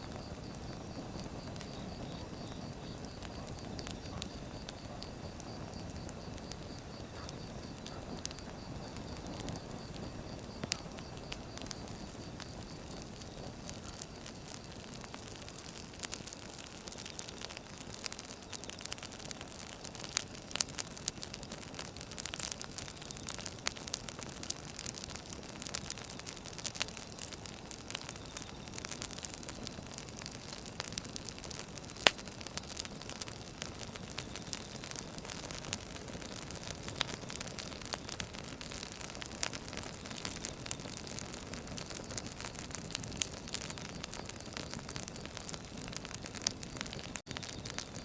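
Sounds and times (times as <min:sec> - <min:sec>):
firewood crackling and popping: 0:00.0 - 0:48.0.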